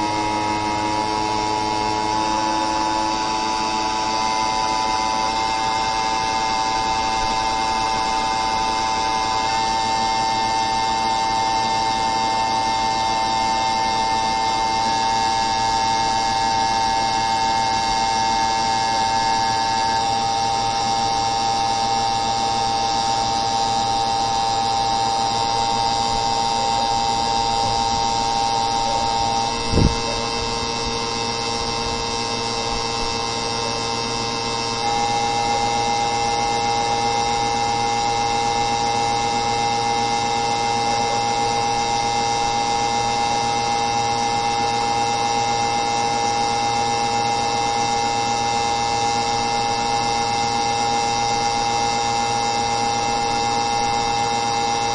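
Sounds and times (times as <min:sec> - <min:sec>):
machine hum: 0:00.0 - 0:54.9.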